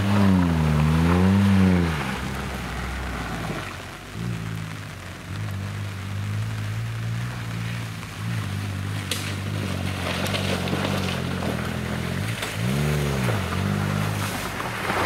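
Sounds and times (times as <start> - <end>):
mud and water splashing: 0.0 - 15.0
off-road vehicle engine running: 0.0 - 15.0.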